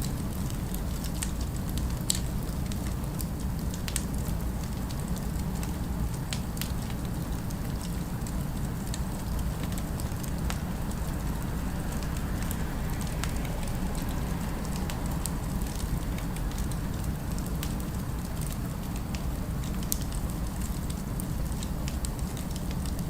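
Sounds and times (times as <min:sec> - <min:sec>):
fire crackling and popping: 0:00.0 - 0:23.0
low rumble of flame: 0:00.0 - 0:23.0.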